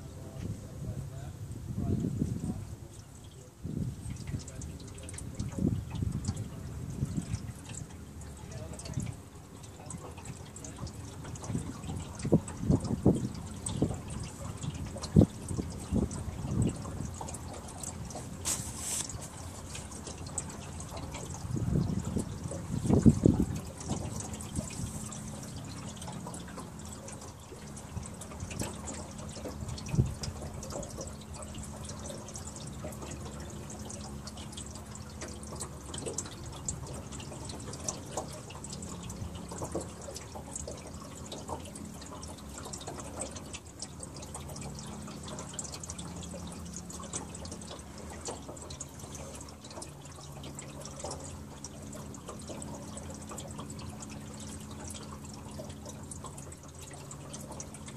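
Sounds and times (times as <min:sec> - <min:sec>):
low steady hum: 0:00.0 - 0:57.9
water drips: 0:01.5 - 0:57.9
river water splashing: 0:02.6 - 0:57.9.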